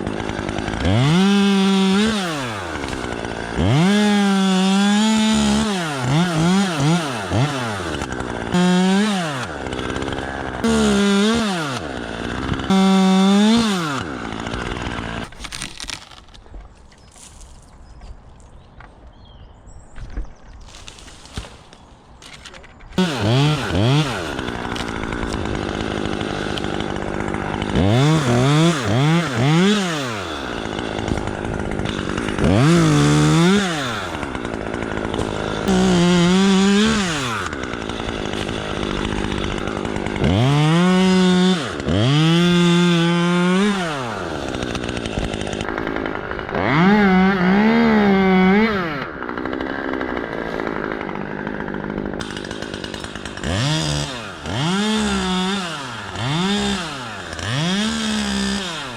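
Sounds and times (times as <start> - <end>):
chainsaw revving: 0.0 - 16.4, 20.7 - 58.9.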